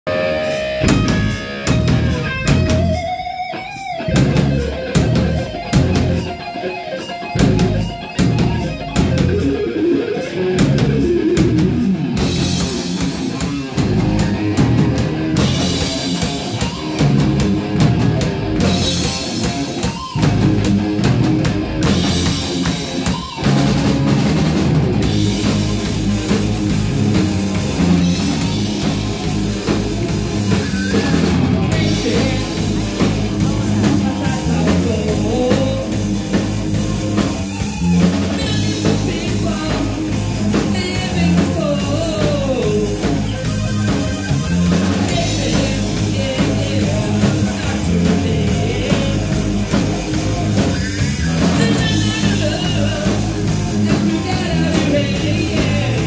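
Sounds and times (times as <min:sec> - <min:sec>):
live heavy metal band playing: 0:00.0 - 0:56.0.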